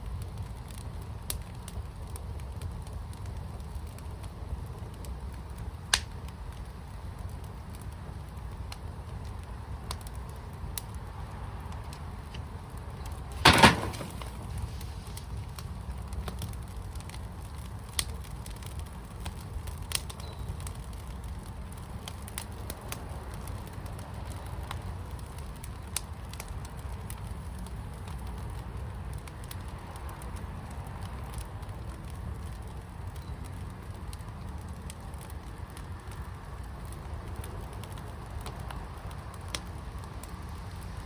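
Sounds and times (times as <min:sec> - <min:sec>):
fire crackling: 0:00.0 - 0:41.0
sharp pops of fire: 0:00.2 - 0:41.0.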